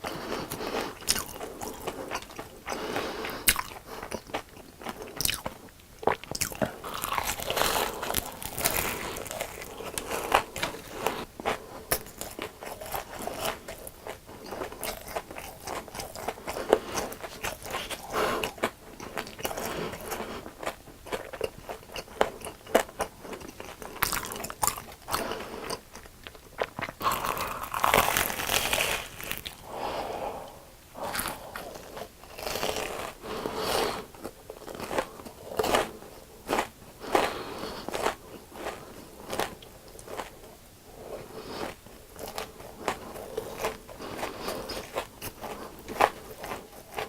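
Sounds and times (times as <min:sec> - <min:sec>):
chewing crisp fried food: 0:00.0 - 0:29.8, 0:31.0 - 0:47.0.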